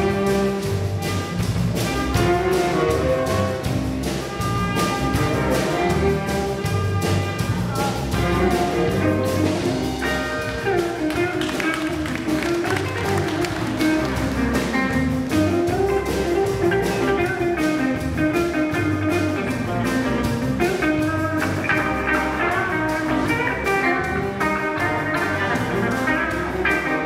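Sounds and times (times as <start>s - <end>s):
live band music: 0.0s - 27.0s.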